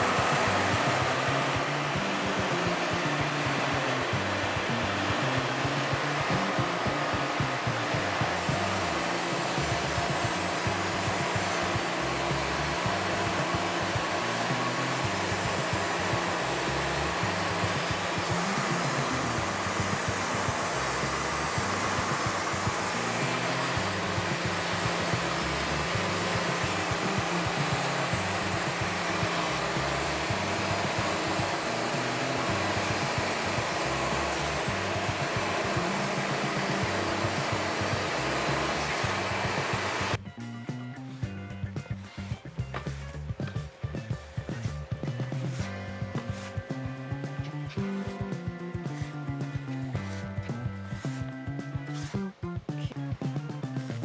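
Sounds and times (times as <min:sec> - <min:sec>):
background music bass line: 0:00.0 - 0:54.0
band sawmill whirring: 0:00.0 - 0:54.0.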